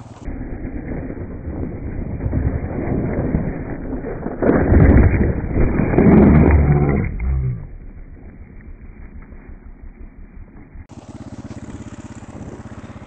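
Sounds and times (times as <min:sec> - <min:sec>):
wind buffeting microphone: 0:00.0 - 0:10.9, 0:12.2 - 0:13.0
dirt bike engine running: 0:00.0 - 0:13.0.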